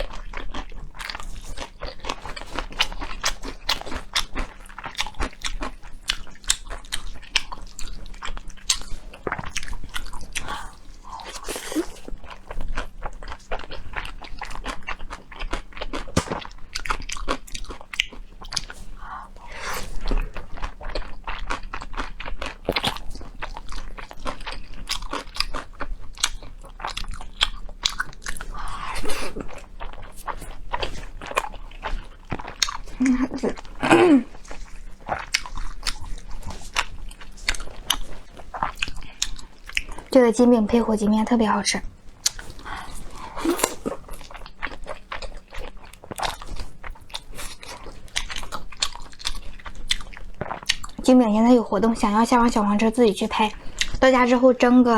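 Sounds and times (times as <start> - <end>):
crunchy bites and chewing: 0.0 - 40.1, 42.1 - 51.0.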